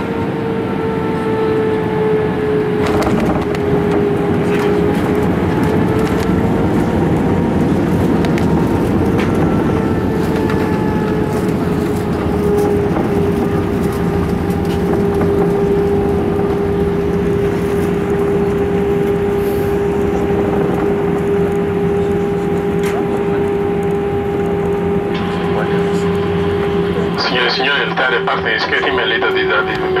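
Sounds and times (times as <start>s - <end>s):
airplane cabin rushing rumble: 0.0s - 30.0s
steady engine tone: 0.0s - 30.0s.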